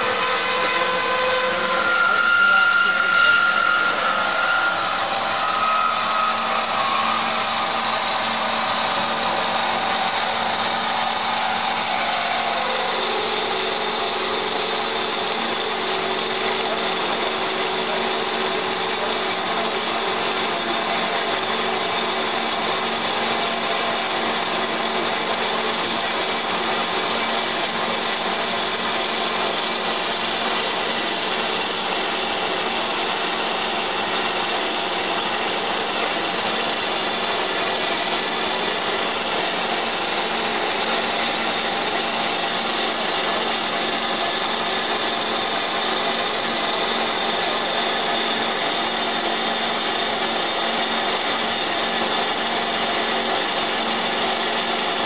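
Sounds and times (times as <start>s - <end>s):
bandsaw cutting steel: 0.0s - 55.0s.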